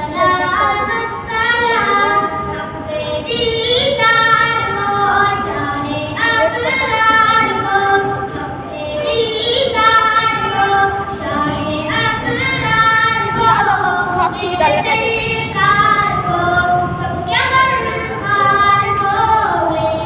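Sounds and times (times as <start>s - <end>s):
boy singing into a microphone: 0.0s - 20.0s.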